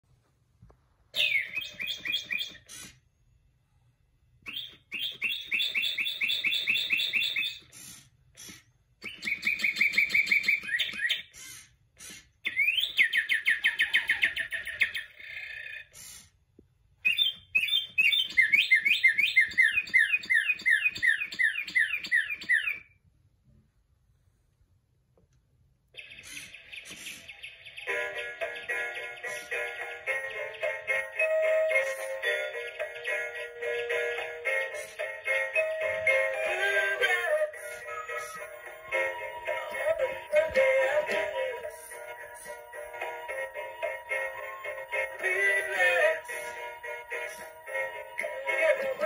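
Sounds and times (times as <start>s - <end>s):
toy bird chirping through speaker: 1.2s - 3.0s, 4.4s - 16.3s, 17.0s - 23.0s, 26.0s - 49.0s.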